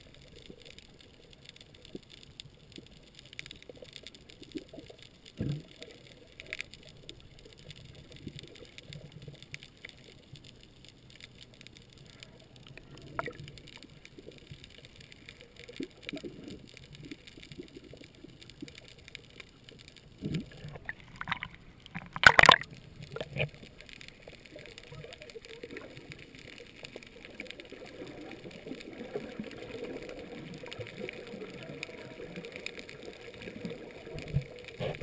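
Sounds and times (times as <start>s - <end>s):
faint underwater clicks and crackles: 0.0s - 35.0s
muffled underwater hiss: 0.0s - 35.0s.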